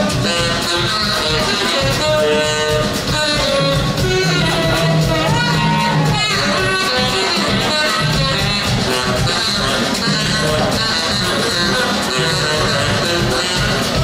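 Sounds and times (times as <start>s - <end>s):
rock band playing: 0.0s - 14.0s
saxophone solo: 0.0s - 14.0s.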